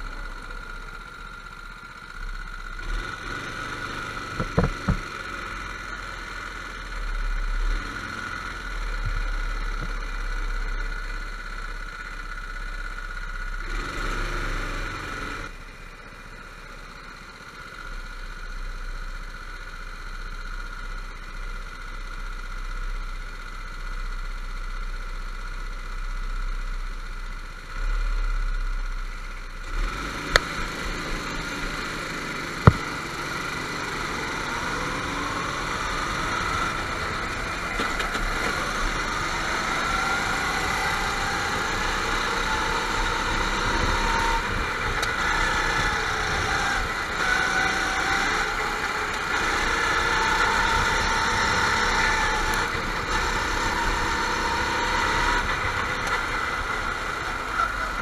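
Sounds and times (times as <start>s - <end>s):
go-kart engines droning: 0.0s - 24.8s, 27.2s - 58.0s.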